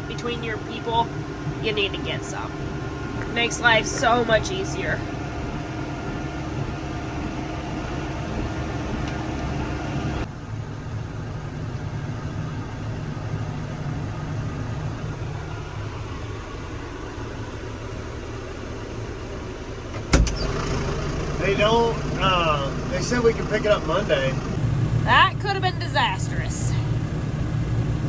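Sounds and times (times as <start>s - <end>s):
dull engine hum: 0.0s - 28.0s
vehicle engine running: 0.0s - 28.0s.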